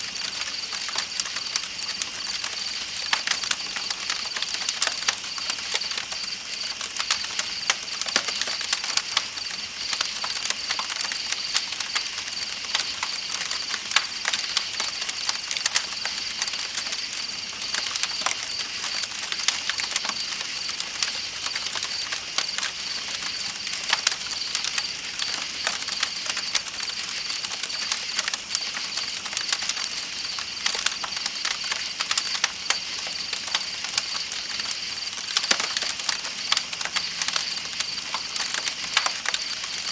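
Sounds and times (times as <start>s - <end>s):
campfire crackling and popping: 0.1s - 39.9s
night insects chirping: 0.1s - 39.9s.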